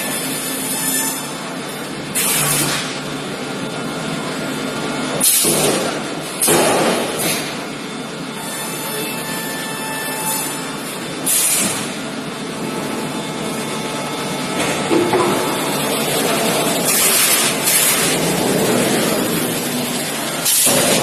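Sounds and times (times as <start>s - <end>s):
machine running: 1.7s - 21.0s.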